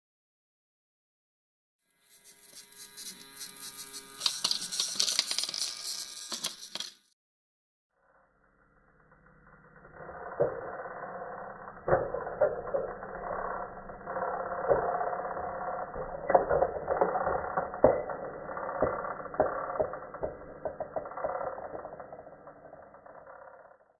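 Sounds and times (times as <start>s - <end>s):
toy train mechanical hum: 1.9s - 7.1s, 8.0s - 23.7s.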